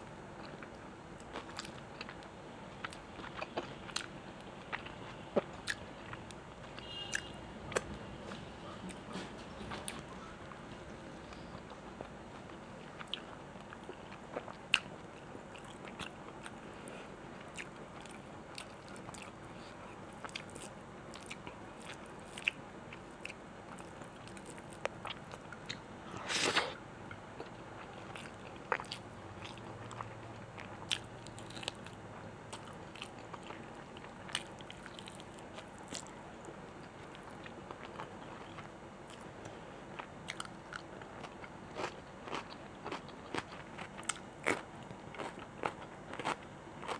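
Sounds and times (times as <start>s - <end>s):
person chewing crunchy food: 0.4s - 10.1s, 11.4s - 26.6s, 27.4s - 36.1s, 36.8s - 46.9s.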